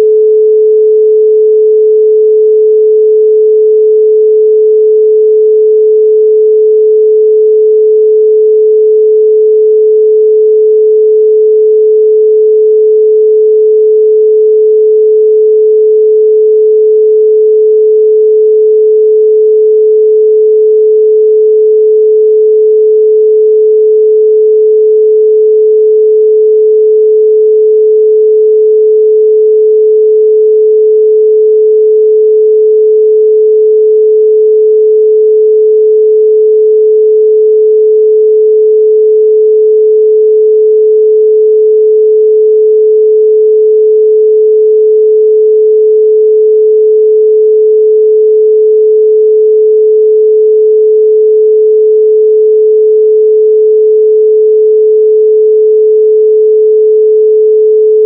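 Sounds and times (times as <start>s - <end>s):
pure sine tone: 0.0s - 58.0s.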